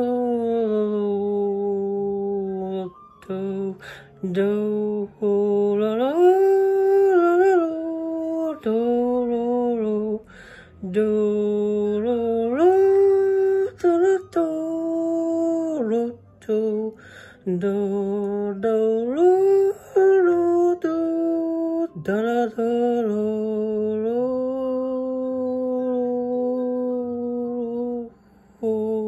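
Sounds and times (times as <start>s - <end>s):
person humming a melody: 0.0s - 29.0s.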